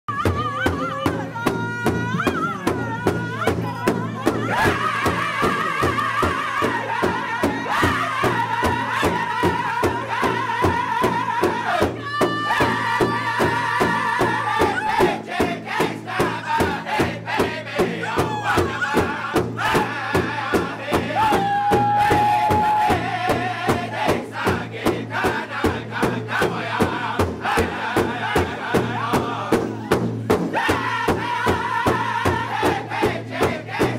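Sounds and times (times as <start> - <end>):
large hide drum beating: 0.1 - 33.9
men singing in high voices: 0.1 - 33.9.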